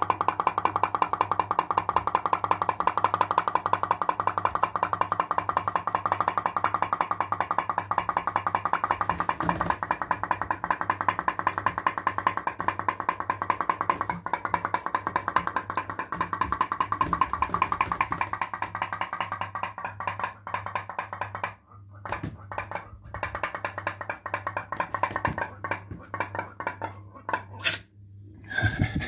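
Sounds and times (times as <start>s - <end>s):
pop-pop boat clicking: 0.0s - 27.5s.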